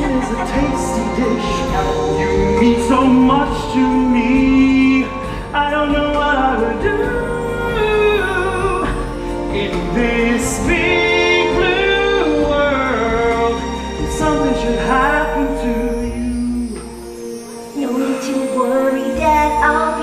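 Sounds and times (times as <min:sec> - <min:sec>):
orchestral backing track: 0:00.0 - 0:20.0.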